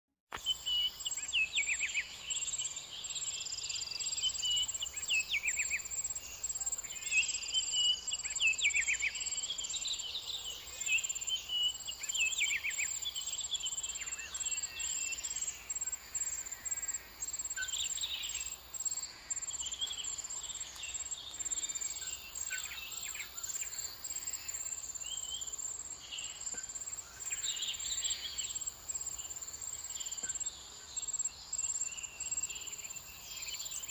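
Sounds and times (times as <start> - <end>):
small birds calling: 0.3 - 33.9.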